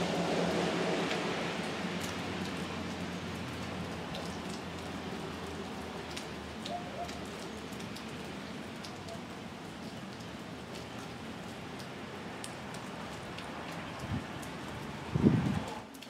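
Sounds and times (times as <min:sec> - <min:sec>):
steady rain falling: 0:00.0 - 0:16.0
raindrops ticking: 0:00.2 - 0:16.0.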